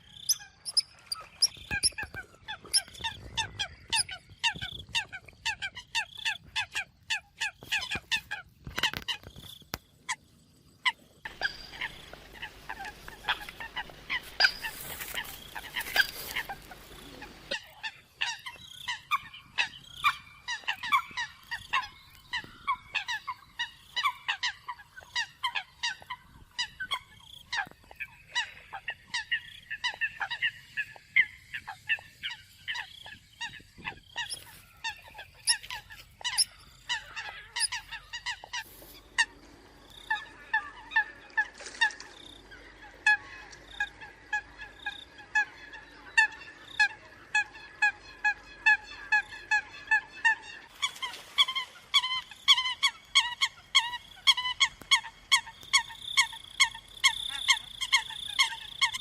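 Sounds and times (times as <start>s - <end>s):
coots calling: 10.9s - 59.0s.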